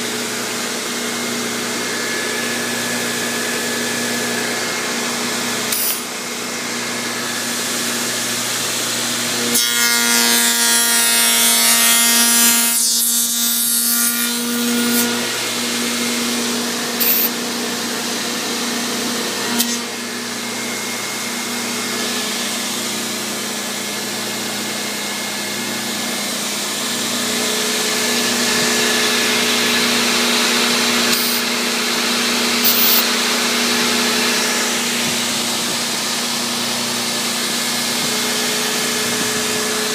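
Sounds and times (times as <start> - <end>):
router cutting wood: 0.0 - 39.9.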